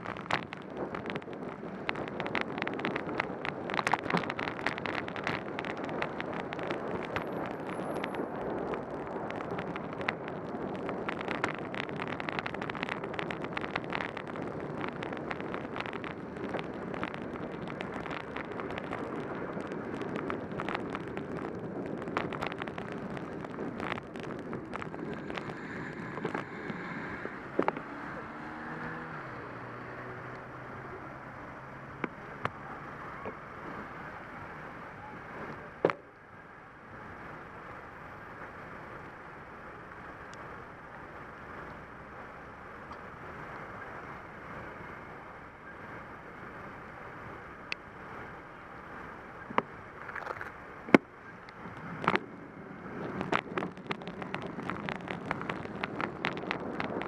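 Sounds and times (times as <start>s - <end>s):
passing cars: 0.0s - 57.0s
raindrops hitting camera: 0.0s - 57.0s
vehicle engine hum: 0.0s - 57.0s
wet road hiss: 0.0s - 57.0s.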